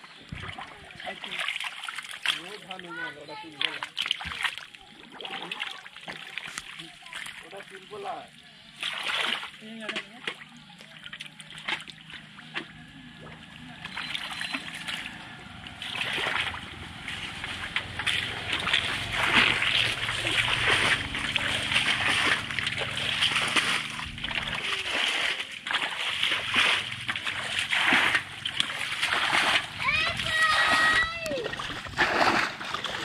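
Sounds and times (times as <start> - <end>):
muddy water splashing and sloshing: 0.0 - 33.0.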